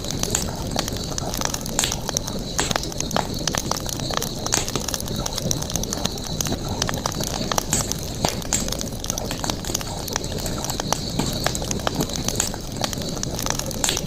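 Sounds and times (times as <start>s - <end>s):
background hiss: 0.0s - 14.0s
campfire crackling and popping: 0.0s - 14.0s.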